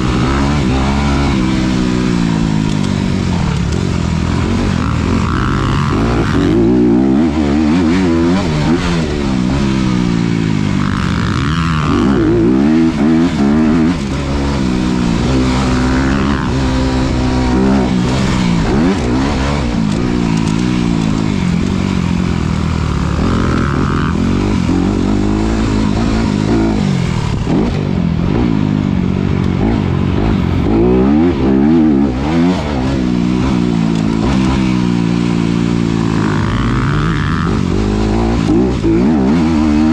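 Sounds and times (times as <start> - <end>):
motorcycle engine revving hard: 0.0 - 39.9.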